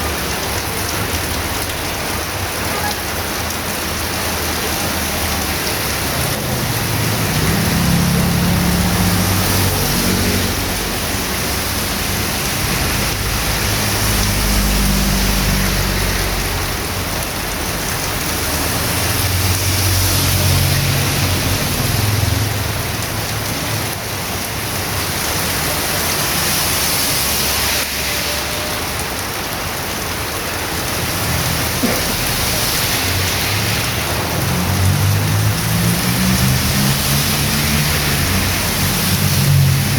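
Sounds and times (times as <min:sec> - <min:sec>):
heavy rain drumming on street: 0:00.0 - 0:39.9.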